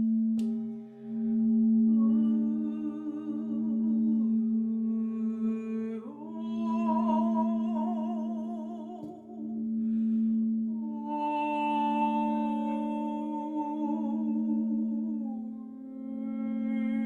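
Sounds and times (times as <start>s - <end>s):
singing bowl ringing drone: 0.0s - 17.0s
woman singing wordless notes: 1.9s - 10.1s, 10.7s - 17.0s.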